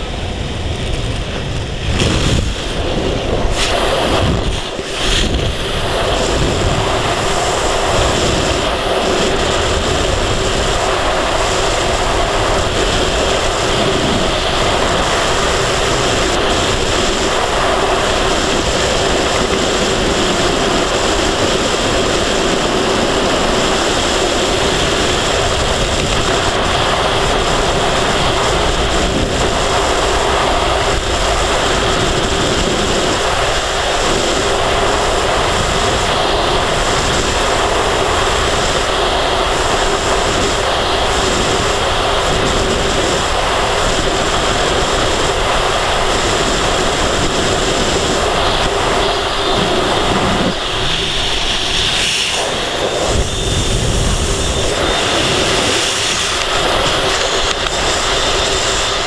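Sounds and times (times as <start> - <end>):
freefall wind rushing: 0.0 - 59.0.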